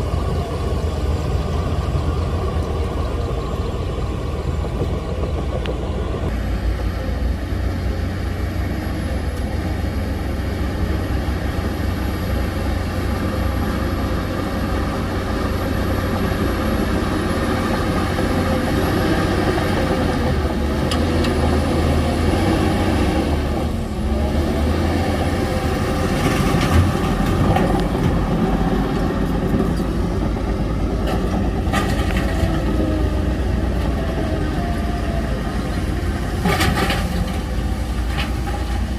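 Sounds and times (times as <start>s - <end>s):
heavy diesel machinery rumbling: 0.0s - 38.9s.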